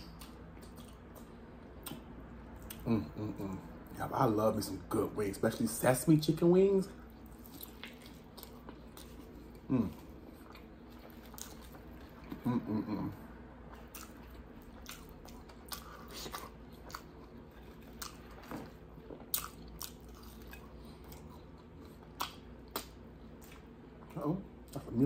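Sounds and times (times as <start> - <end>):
person chewing food: 0.0 - 3.7, 7.0 - 24.9.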